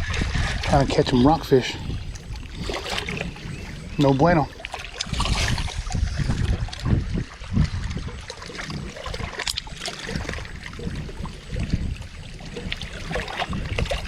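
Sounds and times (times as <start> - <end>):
water lapping and sloshing: 0.0 - 14.0.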